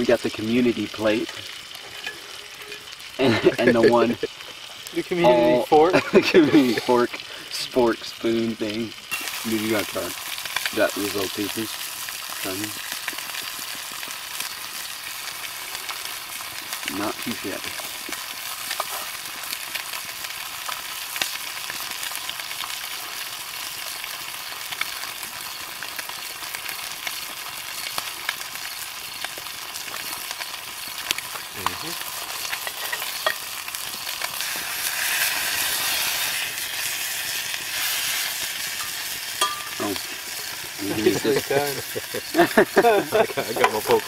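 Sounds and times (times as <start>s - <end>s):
fish sizzling in a pan: 0.0s - 44.0s
sharp crackles: 7.5s - 44.0s.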